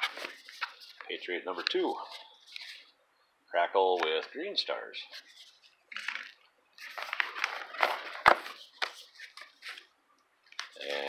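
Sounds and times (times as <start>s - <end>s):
cardboard tubes rustling and clattering: 0.0s - 2.9s, 3.9s - 9.9s.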